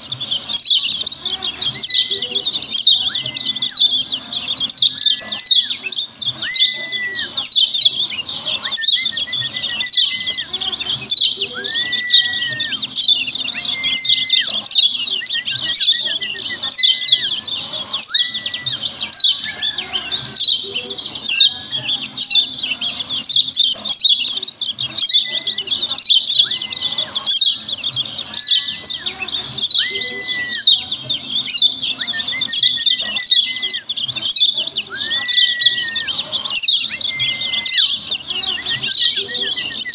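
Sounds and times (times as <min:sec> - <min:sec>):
bird chirping call: 0:00.0 - 0:39.9.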